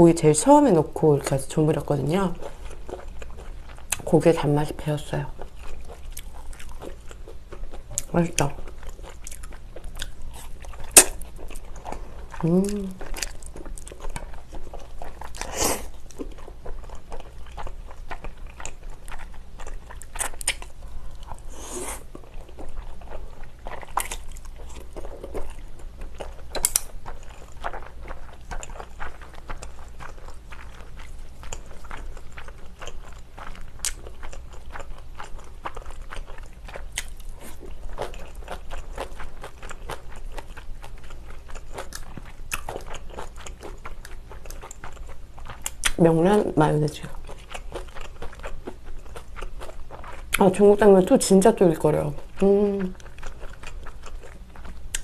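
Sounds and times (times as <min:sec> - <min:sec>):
wet chewing and crunching: 0:00.1 - 0:55.0.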